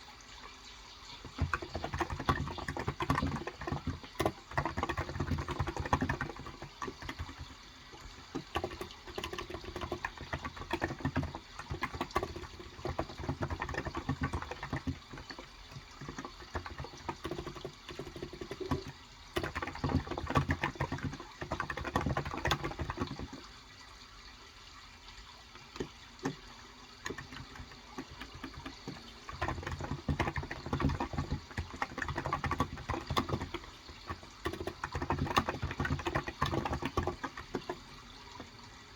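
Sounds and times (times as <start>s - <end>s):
running water: 0.0s - 38.9s
keyboard typing: 1.2s - 23.5s, 25.6s - 38.6s.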